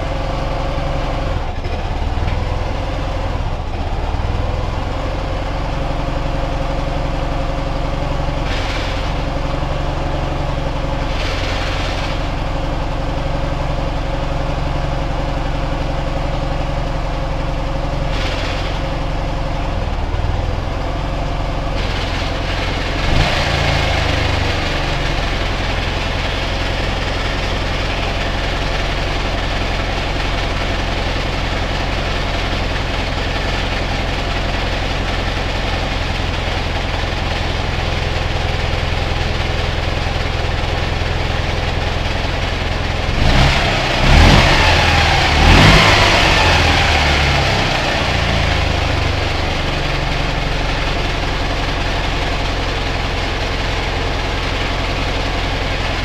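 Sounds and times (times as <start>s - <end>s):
engine knock: 0.0s - 56.0s
motorcycle engine idling: 0.0s - 56.0s.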